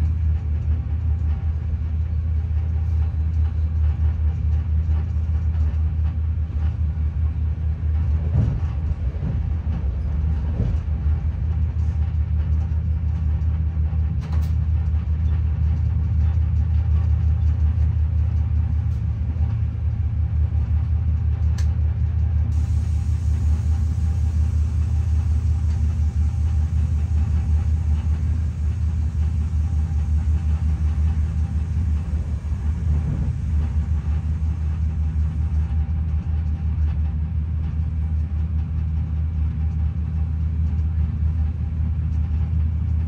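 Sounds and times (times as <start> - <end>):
train rumble inside carriage: 0.0 - 43.0.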